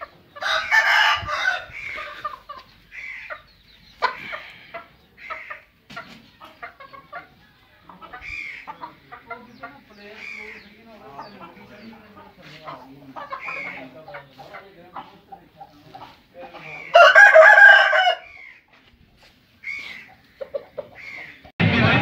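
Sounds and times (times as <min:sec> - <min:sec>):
young chickens clucking: 0:00.0 - 0:21.5.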